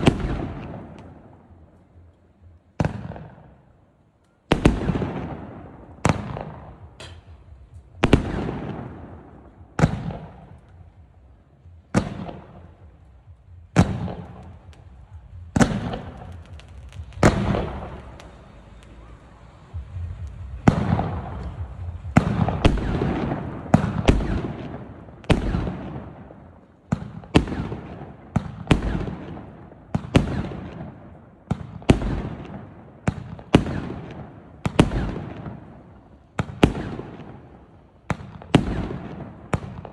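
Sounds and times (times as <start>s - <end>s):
fireworks bursting with bangs: 0.0s - 3.8s, 4.4s - 39.9s
fireworks crackling: 0.0s - 39.9s.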